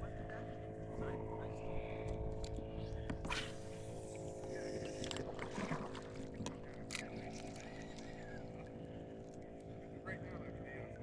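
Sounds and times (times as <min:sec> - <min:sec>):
steady motor drone: 0:00.0 - 0:11.0
water sounds around kayak: 0:00.0 - 0:11.0.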